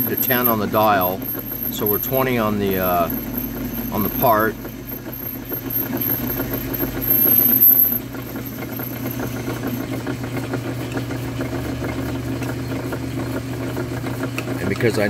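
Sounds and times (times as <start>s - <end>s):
metal lathe humming: 0.0s - 15.0s.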